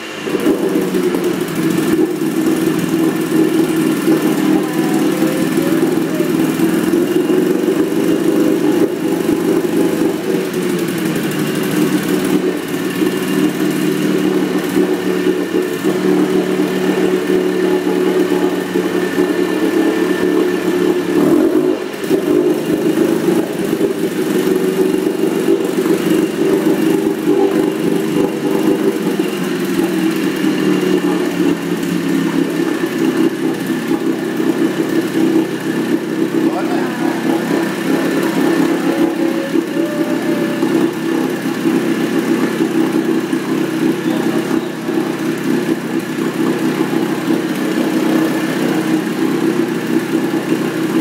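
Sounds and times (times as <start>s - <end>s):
outboard motor running: 0.0s - 51.0s.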